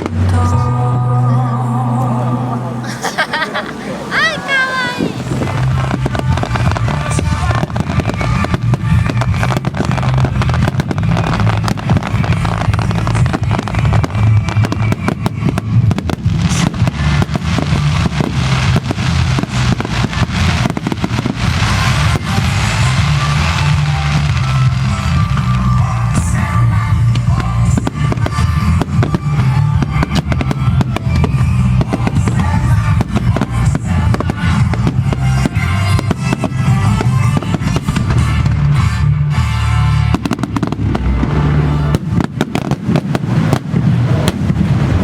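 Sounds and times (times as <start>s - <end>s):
fireworks bursts and crackling: 3.2s - 45.0s
low firework booms: 5.1s - 39.0s, 40.0s - 45.0s.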